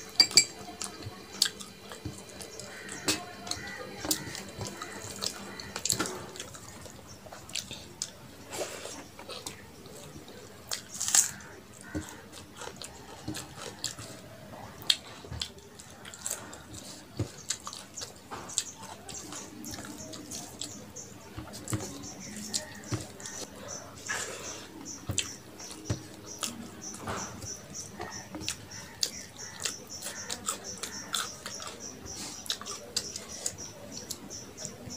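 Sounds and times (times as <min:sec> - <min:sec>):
chewing and lip-smacking: 0:00.6 - 0:34.9.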